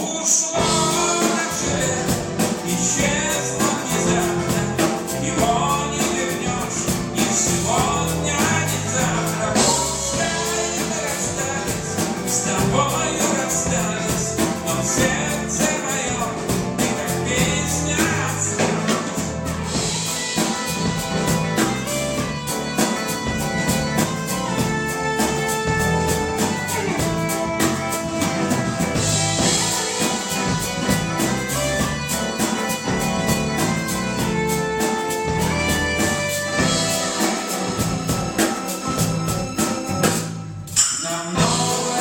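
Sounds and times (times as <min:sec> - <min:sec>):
drum kit beat: 0:00.0 - 0:42.0
live band playing pop: 0:00.0 - 0:42.0.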